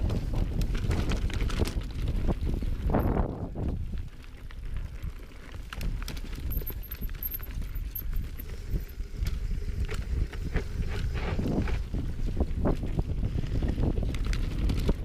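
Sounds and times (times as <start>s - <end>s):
bike clicks and knocks: 0.0s - 12.0s
wind buffeting microphone: 0.0s - 15.0s.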